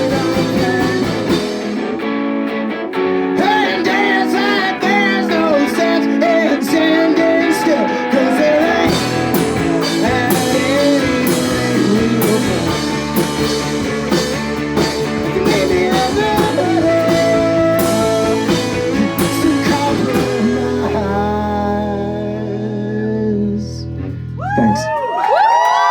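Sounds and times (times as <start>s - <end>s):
person singing: 0.0s - 2.0s, 2.9s - 14.1s, 14.8s - 24.0s
drums: 0.0s - 22.6s
guitars: 0.0s - 25.0s
bass: 0.0s - 25.9s.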